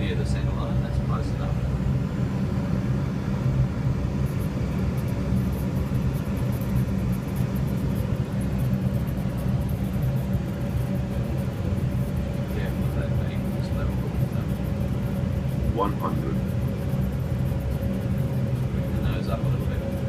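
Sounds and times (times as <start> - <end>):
faint steady hum: 0.0 - 20.0
low cockpit rumble: 0.0 - 20.0.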